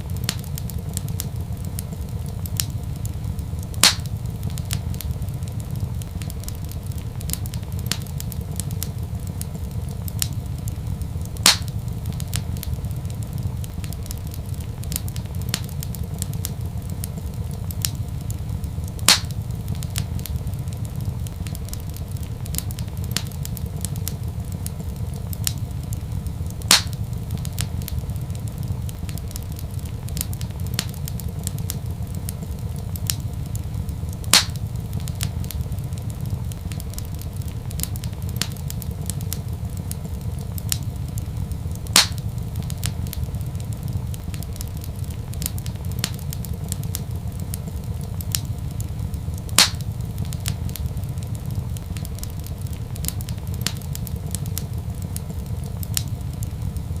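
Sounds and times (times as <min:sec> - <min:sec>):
wood fire crackling: 0:00.0 - 0:57.0
wood fire popping: 0:00.0 - 0:57.0.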